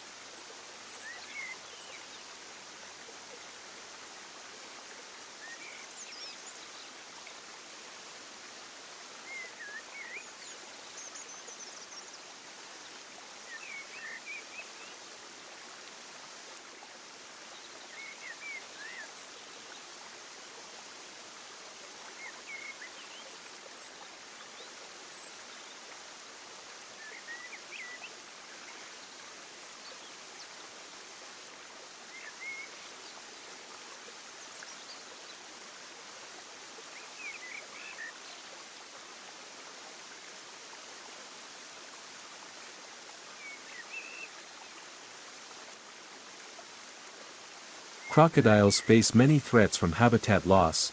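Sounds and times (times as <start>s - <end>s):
rushing water hiss: 0.0s - 50.9s.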